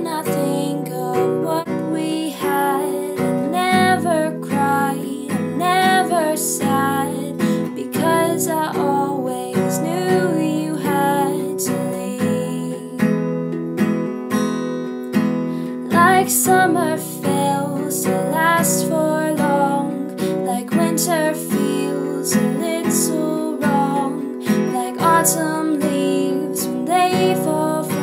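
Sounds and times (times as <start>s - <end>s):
woman singing: 0.0s - 13.2s, 15.7s - 28.0s
acoustic guitar strummed: 0.0s - 28.0s.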